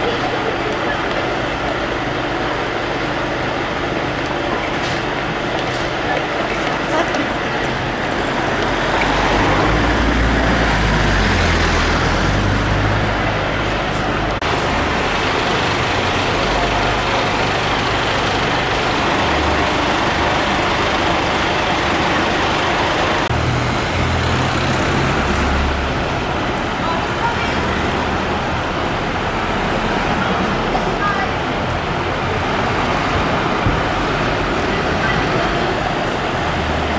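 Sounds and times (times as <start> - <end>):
diesel engines rumbling: 0.0 - 36.9
street traffic noise: 0.0 - 36.9.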